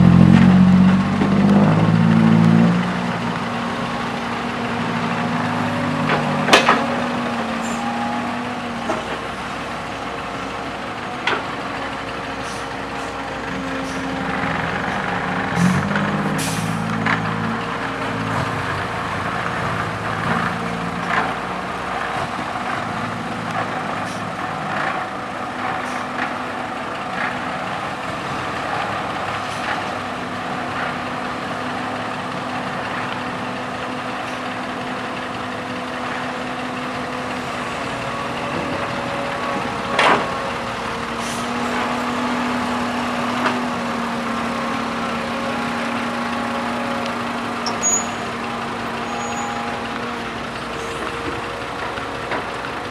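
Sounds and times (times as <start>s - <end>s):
dump truck running: 0.0s - 52.9s
excavator diesel engine: 0.0s - 52.9s.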